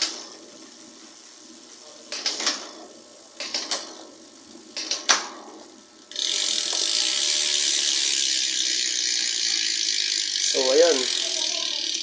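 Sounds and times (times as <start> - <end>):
bicycle hub ratcheting buzz: 0.0 - 12.0.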